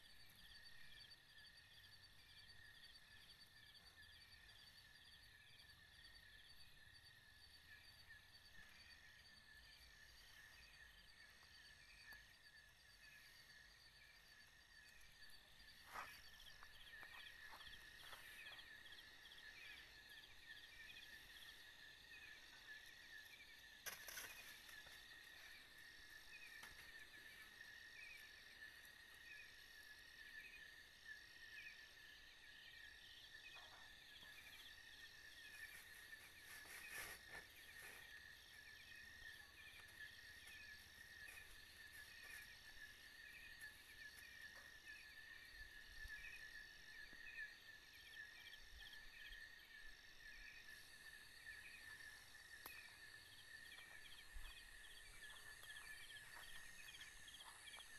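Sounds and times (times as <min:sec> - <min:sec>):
crickets and insects chirping: 0:00.0 - 0:57.9.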